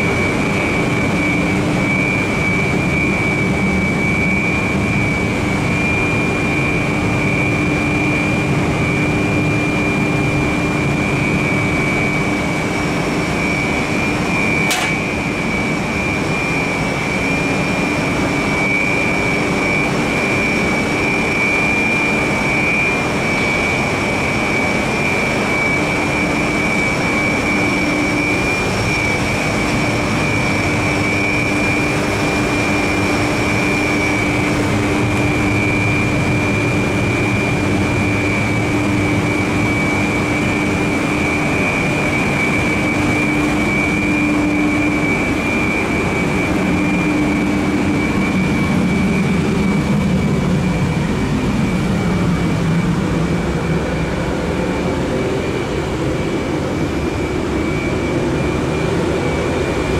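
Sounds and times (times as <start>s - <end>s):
high-pitched whine: 0.0s - 59.9s
machinery droning: 0.0s - 59.9s.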